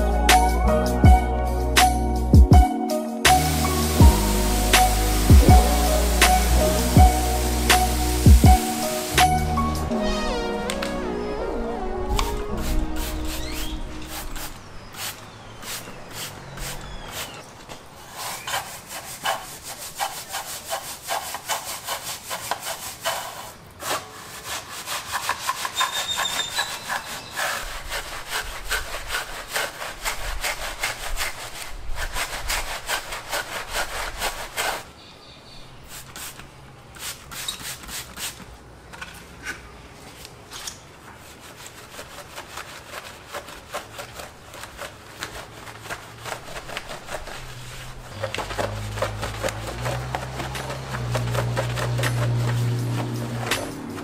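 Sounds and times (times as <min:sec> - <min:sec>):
brush scrubbing a wheel: 0:03.3 - 0:09.9, 0:12.4 - 0:34.9, 0:35.8 - 0:38.5, 0:40.1 - 0:54.0.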